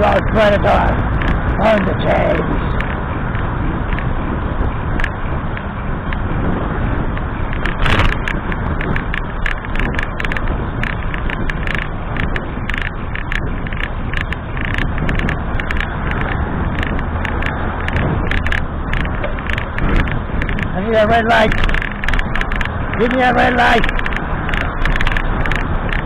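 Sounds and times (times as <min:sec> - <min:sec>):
bicycle clicks and rattles: 0:00.0 - 0:26.0
bicycle road noise: 0:00.0 - 0:26.0
wind rushing over microphone: 0:00.0 - 0:26.0.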